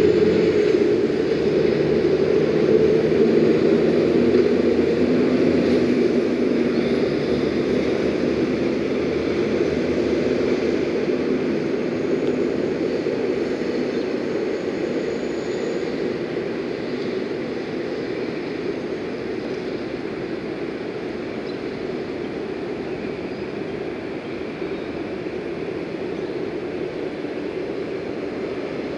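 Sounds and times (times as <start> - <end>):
heavy truck engine drone: 0.0 - 28.9
road traffic noise: 0.0 - 28.9.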